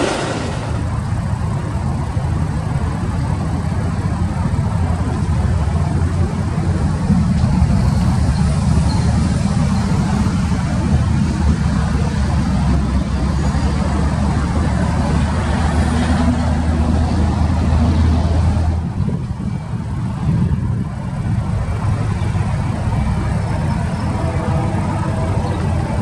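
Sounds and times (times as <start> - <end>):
diesel locomotive rumble: 0.0 - 26.0.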